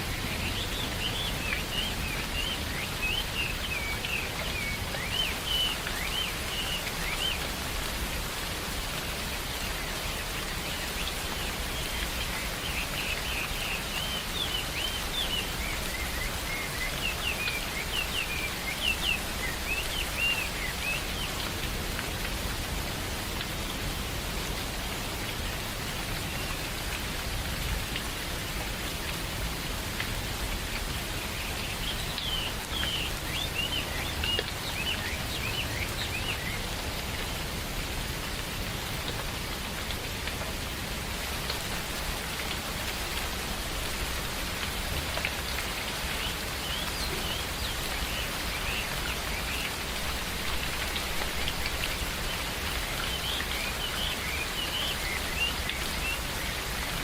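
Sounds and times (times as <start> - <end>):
rain falling in a forest: 0.0 - 57.0.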